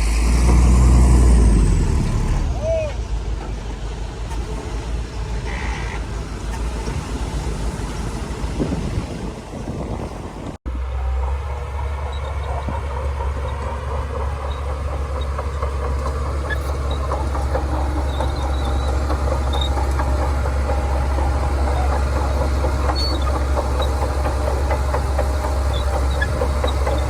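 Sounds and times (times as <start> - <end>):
bulldozer diesel engine: 0.0 - 27.0
steel tracks clattering: 3.0 - 10.6, 11.2 - 27.0.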